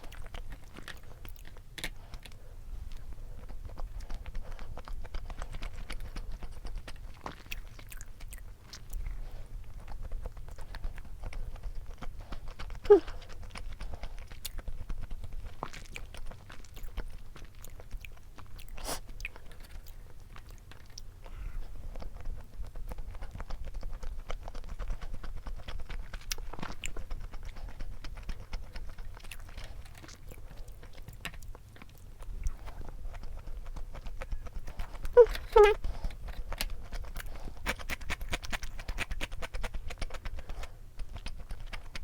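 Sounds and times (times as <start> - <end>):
chewing and biting: 0.0 - 42.0.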